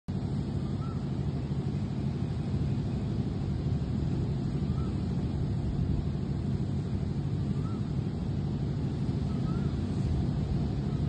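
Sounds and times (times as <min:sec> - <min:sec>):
steady low rumbling: 0:00.1 - 0:11.0.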